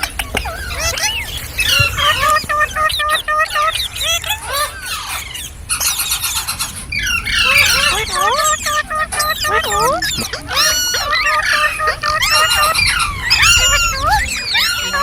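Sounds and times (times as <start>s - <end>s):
parrot chirping and squealing: 0.4s - 15.0s.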